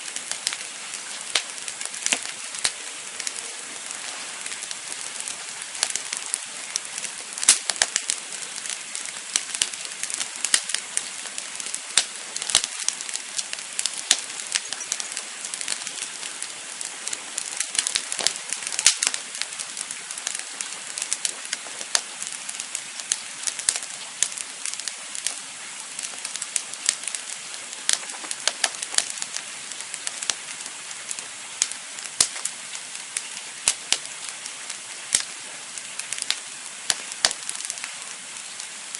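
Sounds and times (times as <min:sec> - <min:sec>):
campfire pops and snaps: 0:00.0 - 0:38.8
hiss of burning: 0:00.0 - 0:38.9.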